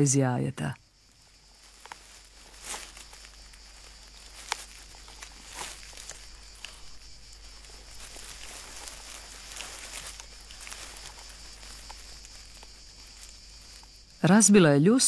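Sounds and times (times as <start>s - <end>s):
steady high hiss: 0.0s - 15.0s
small scattered ticks: 0.7s - 14.6s
dry soil scratching and crumbling: 1.0s - 14.5s.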